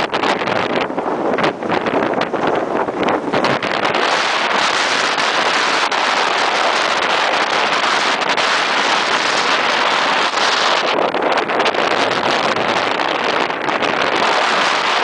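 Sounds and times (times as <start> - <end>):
rushing wind and water: 0.0 - 15.0
wind buffeting microphone: 0.0 - 15.0.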